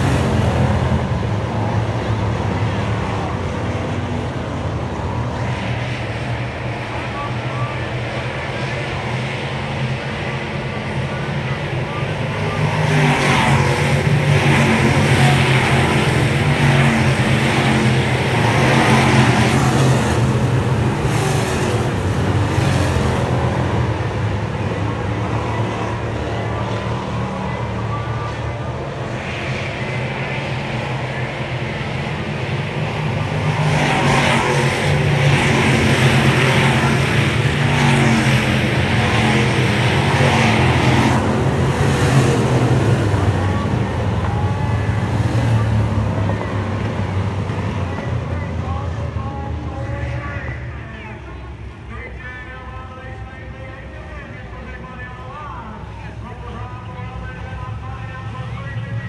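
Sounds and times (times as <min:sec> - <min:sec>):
stock car engines racing: 0:00.0 - 0:59.0.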